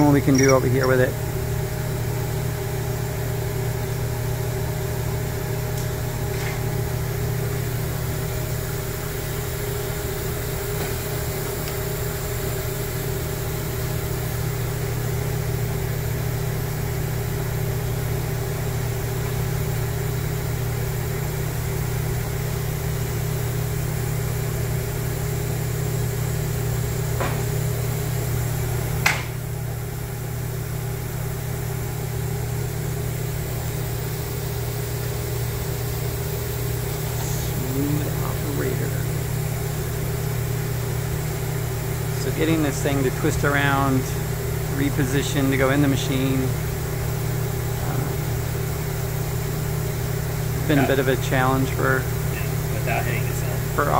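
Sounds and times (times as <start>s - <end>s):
machine hum and hiss: 0.0s - 53.9s.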